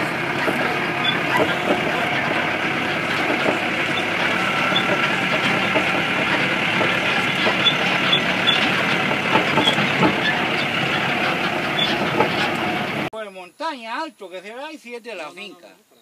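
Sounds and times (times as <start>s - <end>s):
machine rattles and knocks: 0.0s - 13.1s
tractor engine running: 0.0s - 13.1s.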